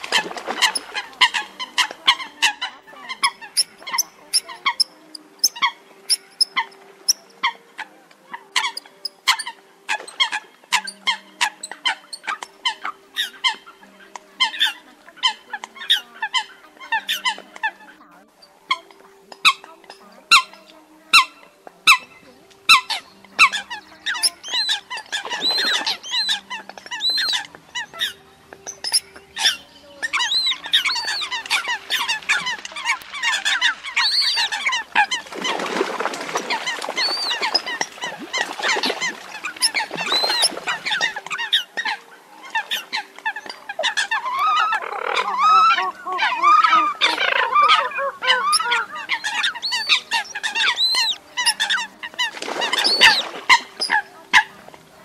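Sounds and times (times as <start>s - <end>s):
coots calling: 0.0s - 55.0s.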